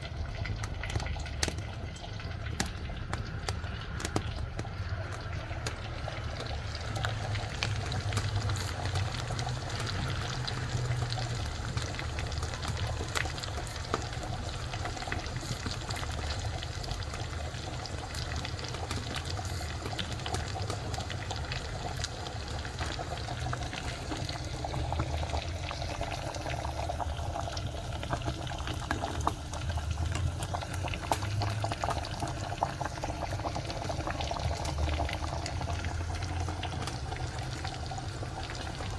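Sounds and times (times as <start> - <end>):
fat popping and crackling: 0.0 - 38.9
sausage sizzling in a pan: 0.0 - 38.9.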